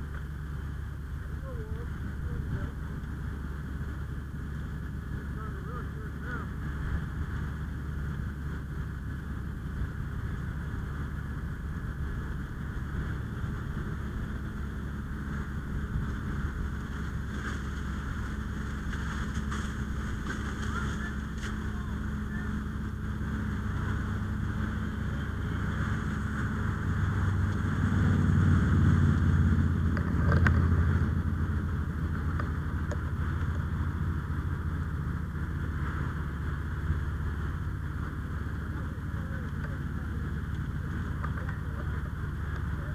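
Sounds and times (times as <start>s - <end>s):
fire engine pump droning: 0.0s - 42.9s.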